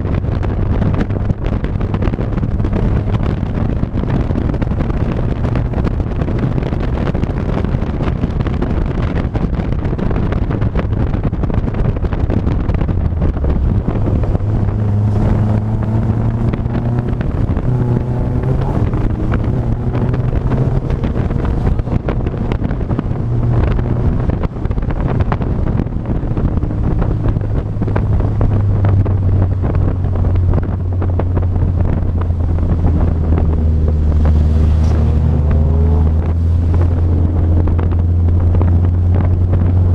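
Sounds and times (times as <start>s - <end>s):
vehicle engine changing speed: 0.0s - 39.9s
wind rushing over microphone: 0.0s - 39.9s.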